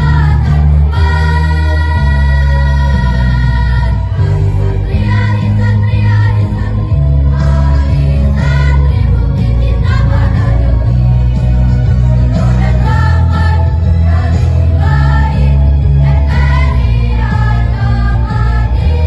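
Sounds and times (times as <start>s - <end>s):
backing music with strong bass: 0.0s - 19.0s
choir singing in unison: 0.0s - 19.0s.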